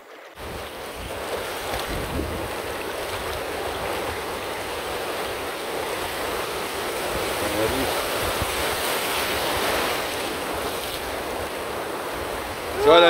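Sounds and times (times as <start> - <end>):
small waves breaking on shore: 0.0 - 13.0
wind buffeting microphone: 0.4 - 13.0.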